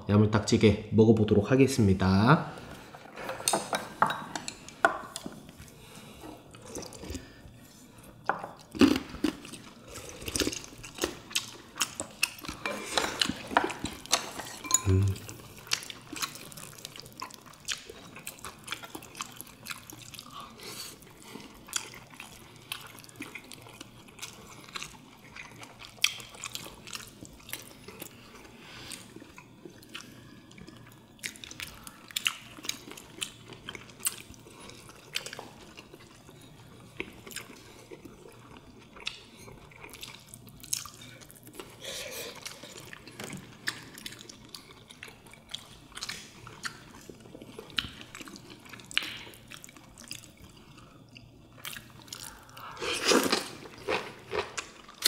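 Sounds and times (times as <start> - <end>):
chewing and wet mouth sounds: 4.4 - 55.0.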